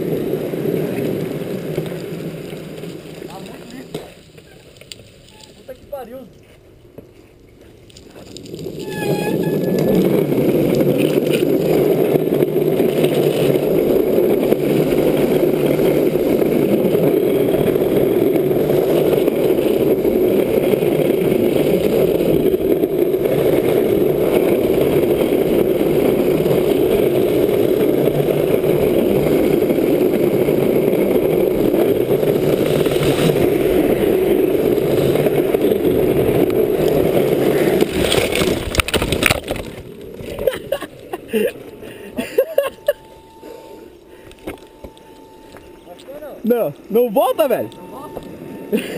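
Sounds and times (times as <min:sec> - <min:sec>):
rushing wind: 0:00.0 - 0:48.9
wheels rolling on wet asphalt: 0:00.0 - 0:48.9.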